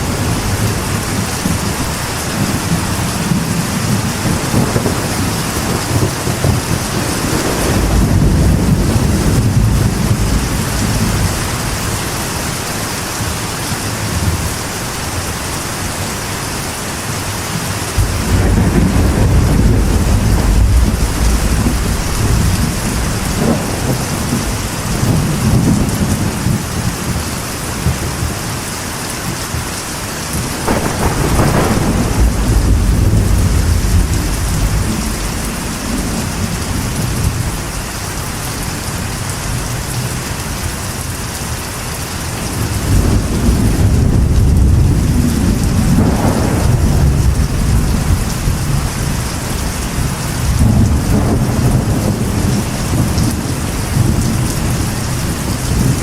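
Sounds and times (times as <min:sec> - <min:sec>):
thunder rumbling: 0:00.0 - 0:14.8, 0:17.4 - 0:56.0
rain drumming on a metal roof: 0:00.0 - 0:56.0.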